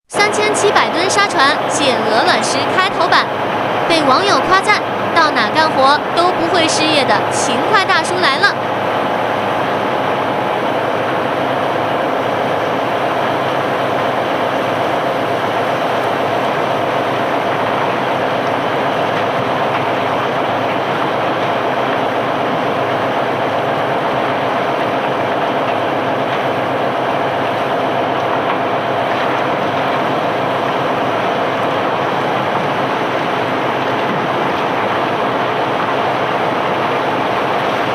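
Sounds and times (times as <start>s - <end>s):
machinery running: 0.0s - 37.9s.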